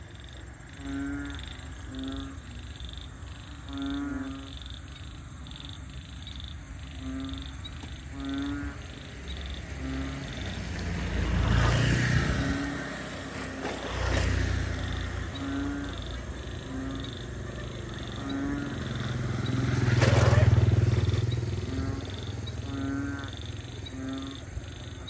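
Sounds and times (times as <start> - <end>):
frogs croaking: 0.0 - 25.0
frogs peeping: 0.0 - 25.0.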